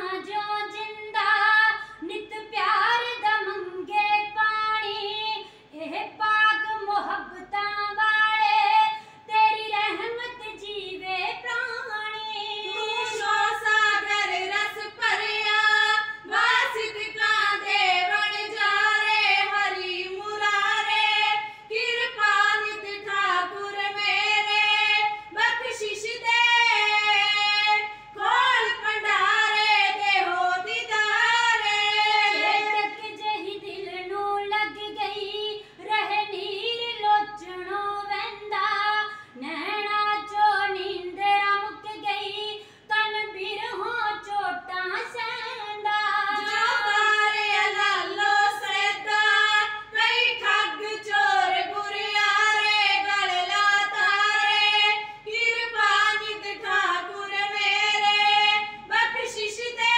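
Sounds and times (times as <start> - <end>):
women singing unaccompanied: 0.0 - 59.9.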